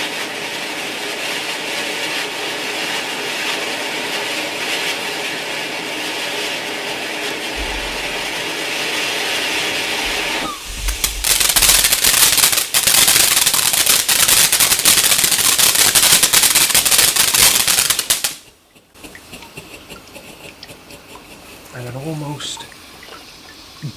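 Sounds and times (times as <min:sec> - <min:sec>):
firework crackling barrage: 0:00.0 - 0:19.4
firework hissing: 0:00.0 - 0:20.6.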